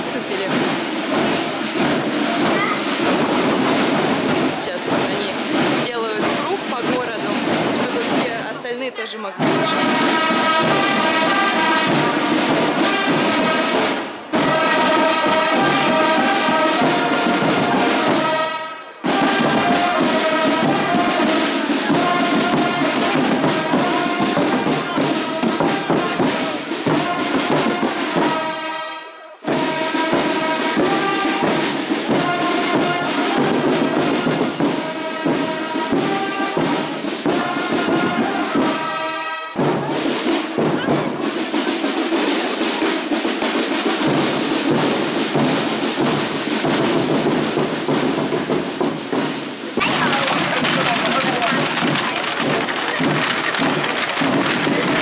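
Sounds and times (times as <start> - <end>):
brass band playing with drums: 0.0 - 55.0.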